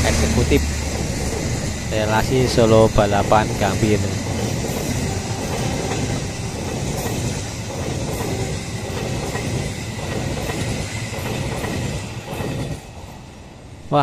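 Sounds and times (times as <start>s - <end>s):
wheels clacking over rail joints: 0.0s - 13.4s
train wheels rumbling on rail: 0.0s - 14.0s.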